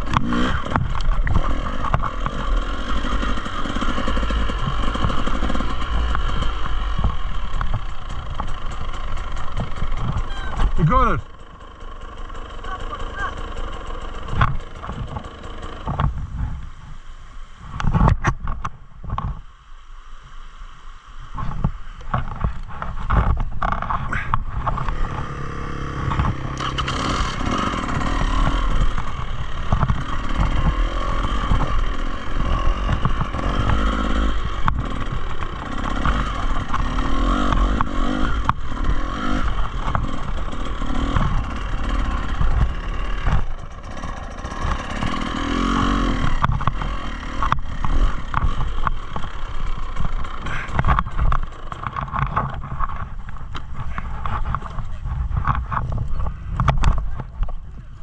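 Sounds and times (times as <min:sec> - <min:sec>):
bike clattering over rough ground: 0:00.0 - 0:16.5, 0:22.0 - 0:58.0
dirt bike engine: 0:00.0 - 0:17.0, 0:21.4 - 0:58.0.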